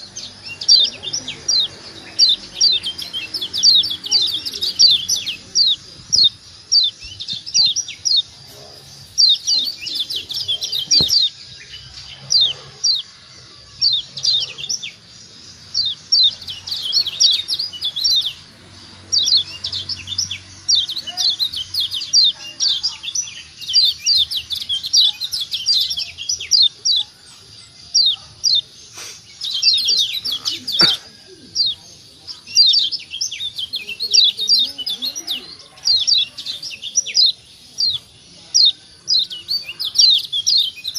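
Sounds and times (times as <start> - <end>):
bird chirping rapidly: 0.0 - 40.9.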